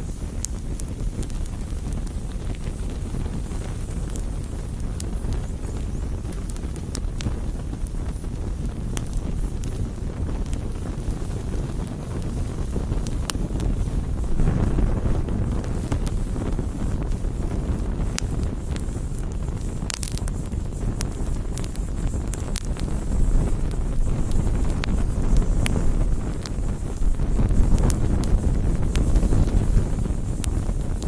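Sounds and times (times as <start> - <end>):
burning wood crackling and popping: 0.0 - 31.0
low rush of flames: 0.0 - 31.0.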